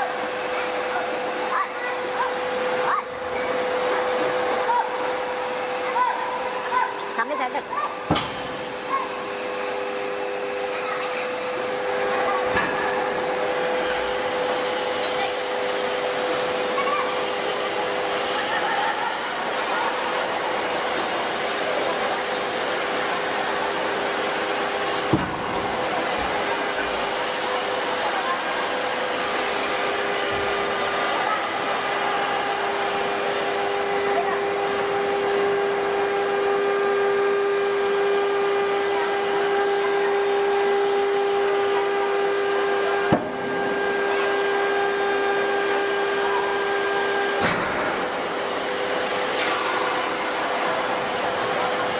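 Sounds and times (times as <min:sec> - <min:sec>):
constant machinery hum: 0:00.0 - 0:51.9
forging press whirring drone: 0:00.0 - 0:51.9.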